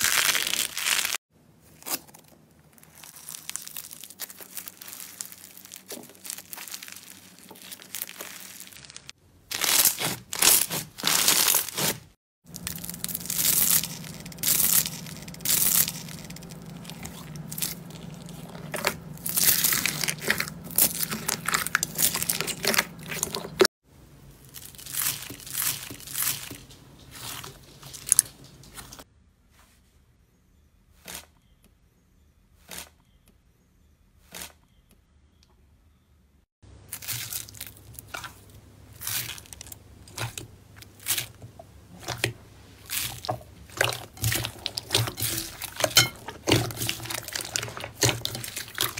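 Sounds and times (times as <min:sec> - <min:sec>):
hands squishing crunchy slime: 0:00.0 - 0:23.7, 0:24.4 - 0:29.0, 0:36.9 - 0:48.9.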